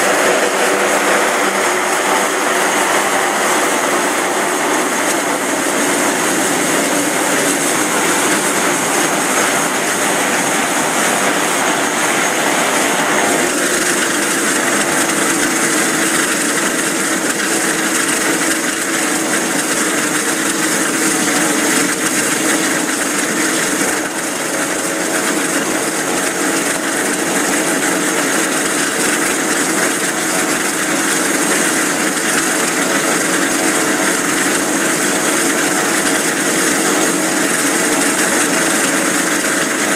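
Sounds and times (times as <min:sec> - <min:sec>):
turboprop engine whine: 0:00.0 - 0:39.9.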